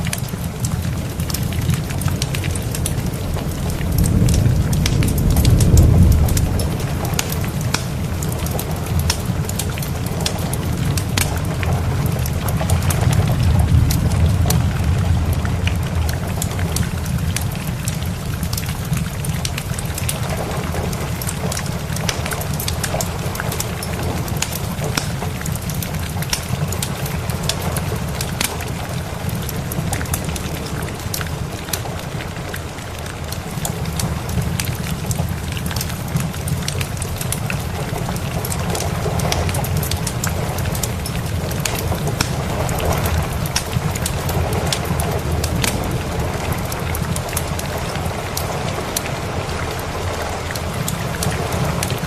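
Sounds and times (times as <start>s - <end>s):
rumble of thunder: 0.0s - 52.0s
steady rain: 0.0s - 52.0s
wood fire crackling: 0.0s - 52.0s.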